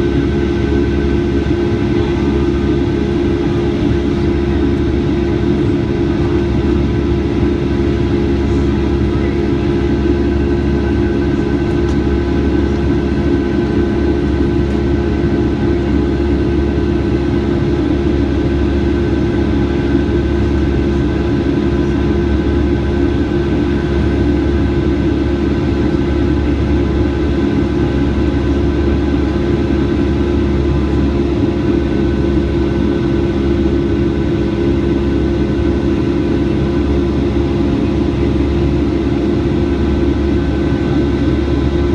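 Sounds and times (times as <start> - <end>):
jet engine drone in cabin: 0.0 - 41.9.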